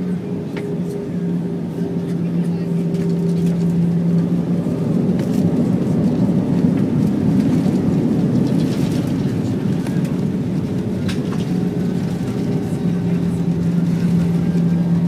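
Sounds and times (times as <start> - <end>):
airplane landing roll roar: 0.0 - 15.0.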